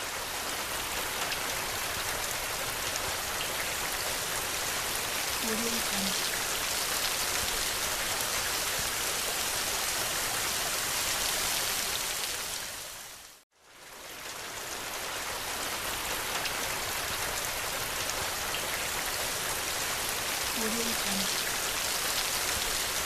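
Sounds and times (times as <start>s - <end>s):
heavy rain hiss: 0.0s - 13.3s, 14.3s - 23.0s.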